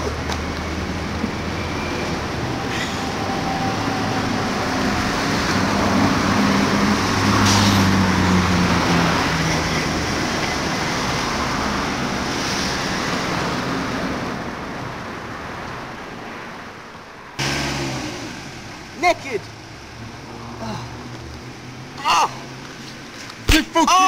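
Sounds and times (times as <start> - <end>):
passing vehicles: 0.0 - 24.0.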